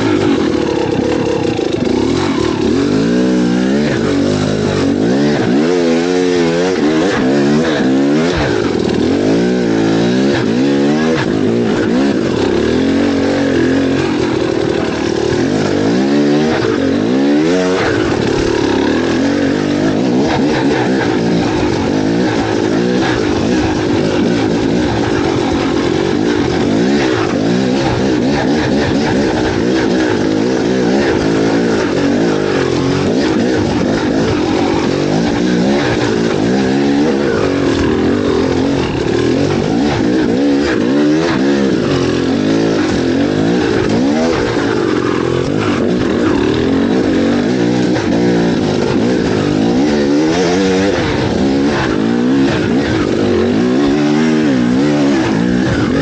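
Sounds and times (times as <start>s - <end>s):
engine revving: 0.0s - 56.0s.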